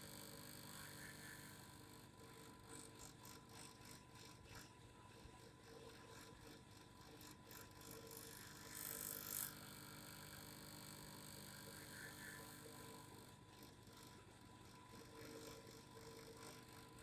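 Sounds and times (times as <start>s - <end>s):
faint vibrating hum: 0.0s - 17.0s.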